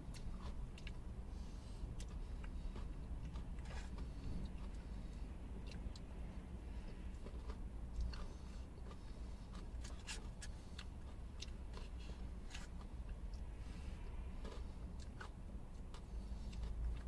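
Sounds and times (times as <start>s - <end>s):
low steady hum: 0.0s - 17.0s
chewing: 0.1s - 6.1s, 6.7s - 17.0s.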